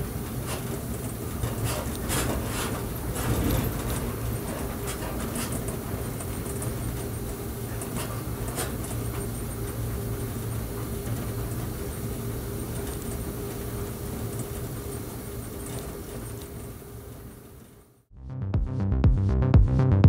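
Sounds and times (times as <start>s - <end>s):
electric train running: 0.0s - 17.6s.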